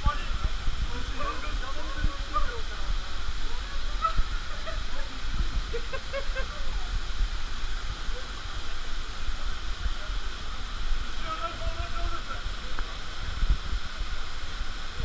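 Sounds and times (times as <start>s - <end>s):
waterfall rushing into a pool: 0.0s - 15.0s.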